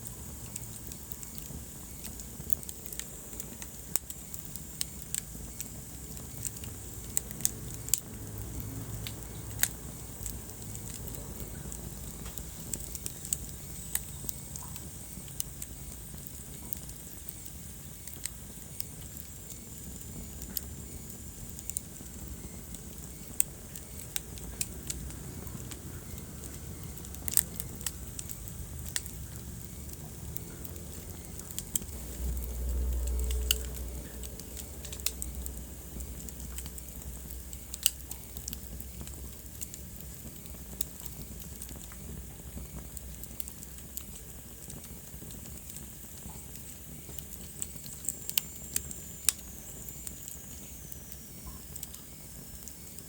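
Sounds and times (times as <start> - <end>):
fire crackling in fireplace: 0.0 - 53.0.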